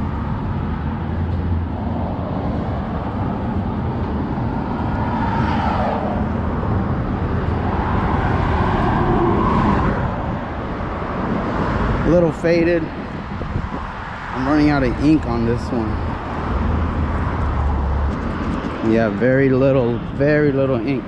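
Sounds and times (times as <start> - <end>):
cars passing: 0.0 - 21.0
road traffic: 0.0 - 21.0.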